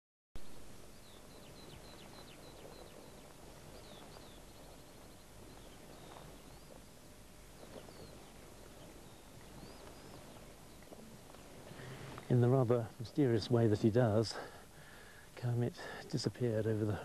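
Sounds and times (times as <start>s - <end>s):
background hiss: 0.4s - 17.0s.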